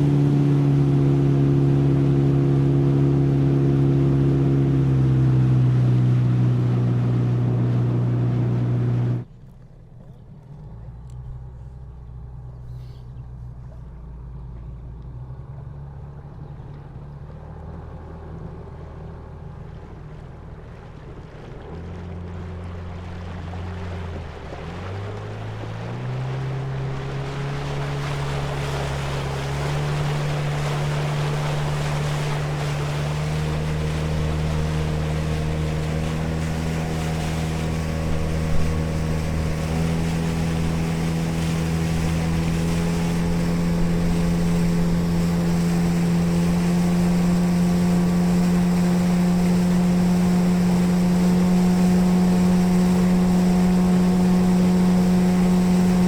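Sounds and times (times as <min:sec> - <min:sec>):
water rushing: 0:00.0 - 0:09.3, 0:16.7 - 0:56.0
motorboat engine: 0:00.0 - 0:56.0
wind: 0:00.0 - 0:56.0.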